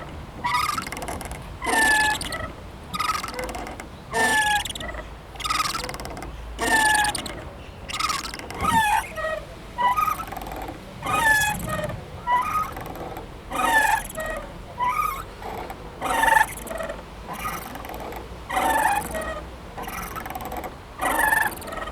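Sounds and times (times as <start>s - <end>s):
playground swing squeaking: 0.0s - 21.9s.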